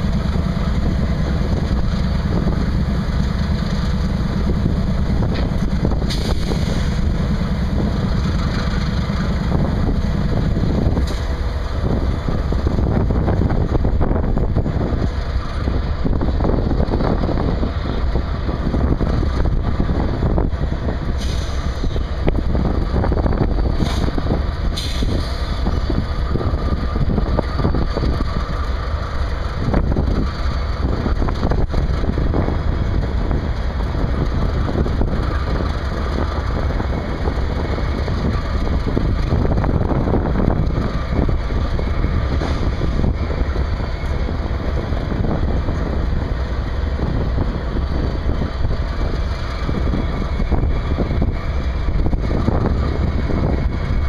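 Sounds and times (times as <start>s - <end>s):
locomotive engines idling: 0.0s - 54.0s.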